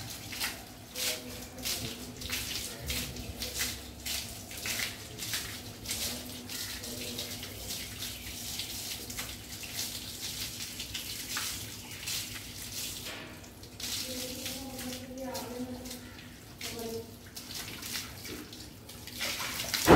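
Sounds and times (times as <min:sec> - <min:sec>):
hose water splashing on dog: 0:00.0 - 0:19.9.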